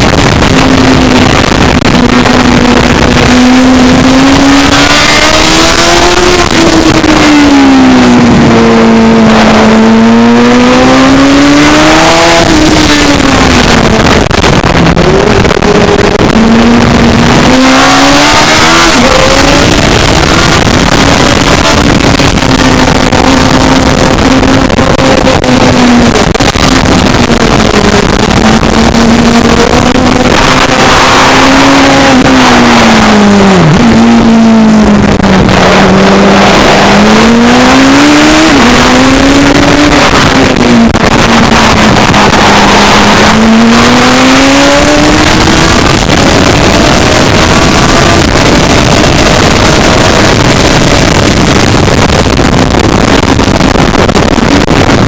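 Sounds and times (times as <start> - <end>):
racing engine revving: 0.0 - 55.0
wind and road noise: 0.0 - 55.0.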